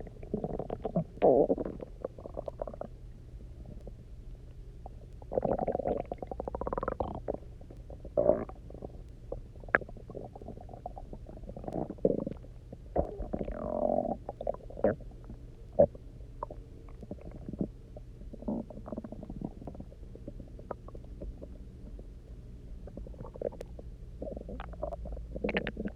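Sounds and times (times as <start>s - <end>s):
stomach rumbling and gurgling: 0.0s - 25.9s.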